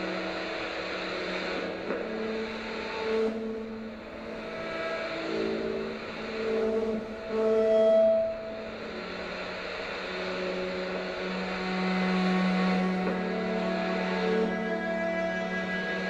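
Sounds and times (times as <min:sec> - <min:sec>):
cello long held notes: 0:00.0 - 0:16.0
smaller bowed string instrument: 0:00.0 - 0:16.0.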